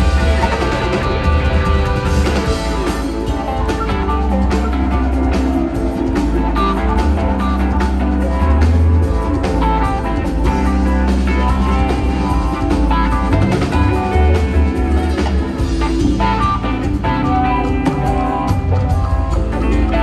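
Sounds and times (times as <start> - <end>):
drum kit beat: 0.0 - 20.0
electric guitar lines: 0.0 - 20.0
sustained bass notes: 0.0 - 20.0.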